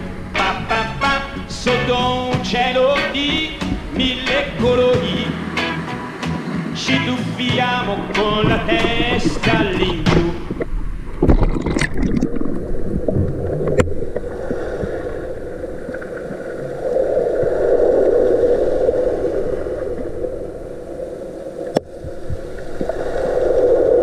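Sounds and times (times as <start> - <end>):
muffled underwater rushing: 0.0 - 24.0.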